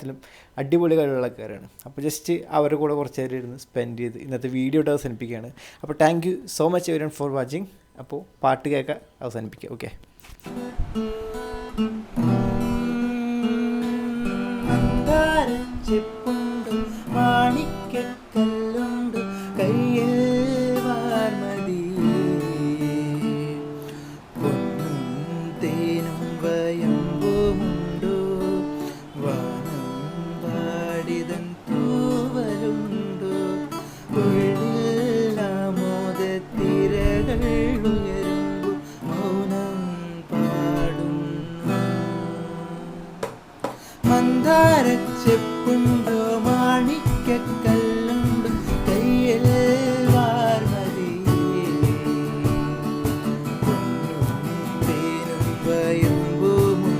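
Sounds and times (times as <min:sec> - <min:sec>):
acoustic guitar strummed and picked: 0:10.2 - 0:56.9.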